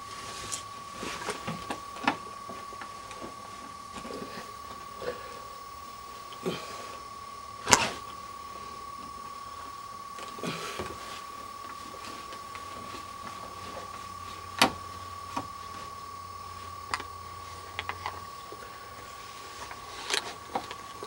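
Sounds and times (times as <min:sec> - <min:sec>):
steady high-pitched tone: 0:00.0 - 0:21.0.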